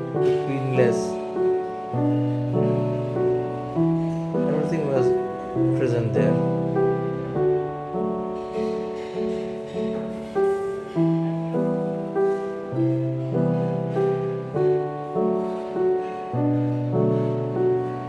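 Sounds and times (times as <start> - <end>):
gentle solo piano piece: 0.0 - 18.0.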